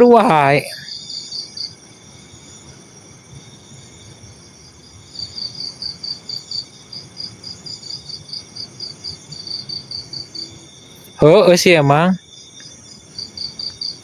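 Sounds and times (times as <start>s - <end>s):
crickets chirping: 0.0s - 14.0s
steady insect trill: 0.0s - 14.0s.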